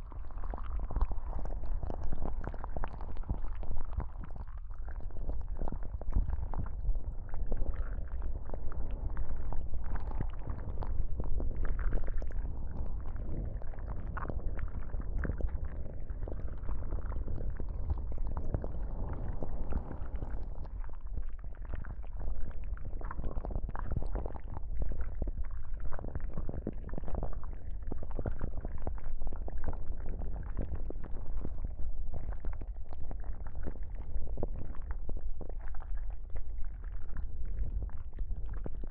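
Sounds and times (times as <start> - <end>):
dense crackle of small clicks: 0.0 - 38.9.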